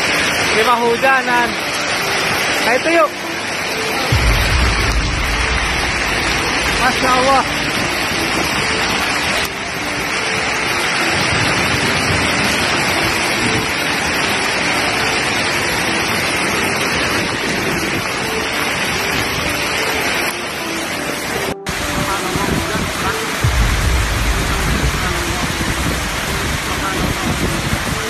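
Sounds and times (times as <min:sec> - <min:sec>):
heavy rain and hail pouring: 0:00.0 - 0:28.0.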